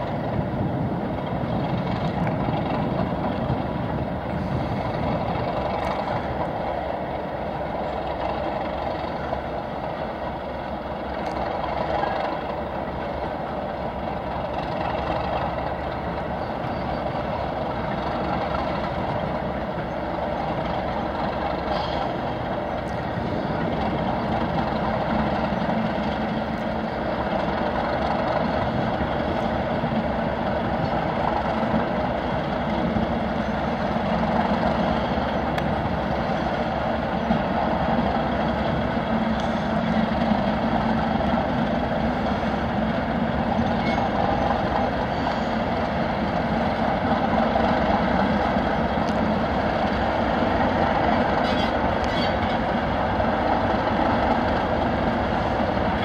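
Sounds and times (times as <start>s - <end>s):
diesel locomotive engines running: 0.0s - 56.0s.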